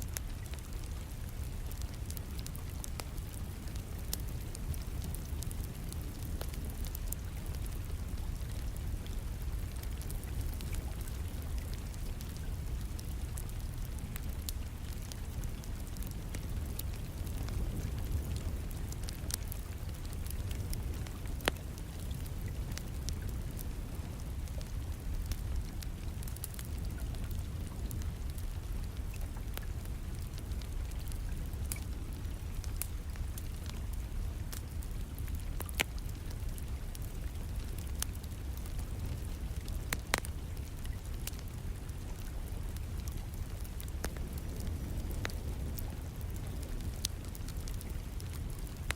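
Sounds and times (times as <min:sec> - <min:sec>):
rain rumbling and hissing: 0:00.0 - 0:48.9
wood fire crackling: 0:00.0 - 0:48.9.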